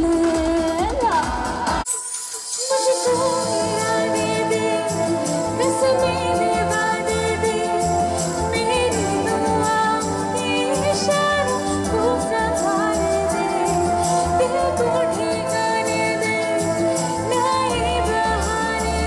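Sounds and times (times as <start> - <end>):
backing music with steady beat: 0.0 - 19.0
woman singing into microphone: 0.0 - 19.0.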